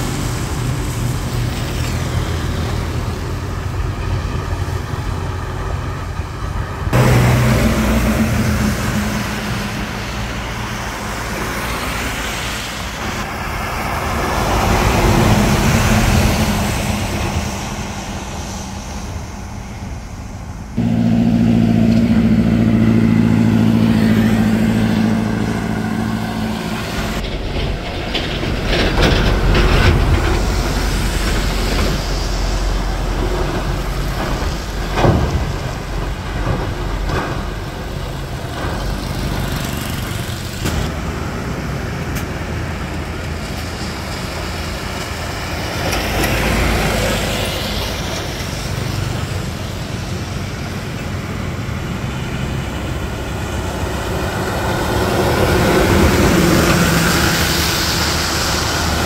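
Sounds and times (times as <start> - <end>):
truck engine droning: 0.0 - 59.0
trucks passing on wet road: 0.0 - 59.0.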